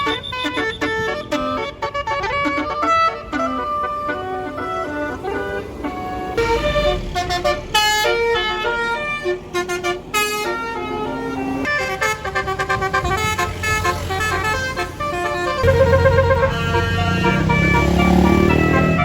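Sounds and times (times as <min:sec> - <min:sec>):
bus engine low rumble: 0:00.0 - 0:19.0
multi-trumpet horn melody: 0:00.0 - 0:19.0.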